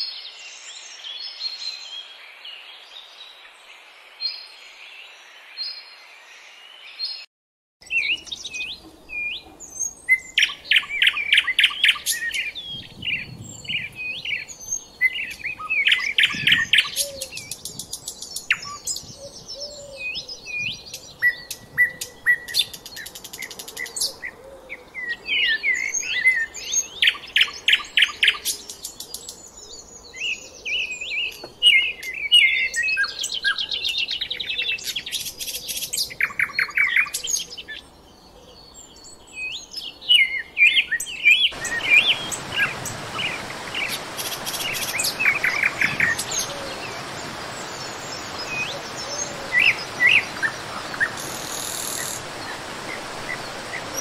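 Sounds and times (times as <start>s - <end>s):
small songbirds twittering: 0.0s - 54.0s.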